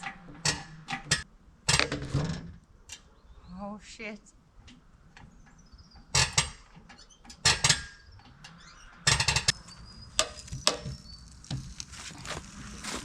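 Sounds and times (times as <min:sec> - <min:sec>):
metallic clicking and clanking: 0:00.0 - 0:03.2, 0:04.5 - 0:11.8.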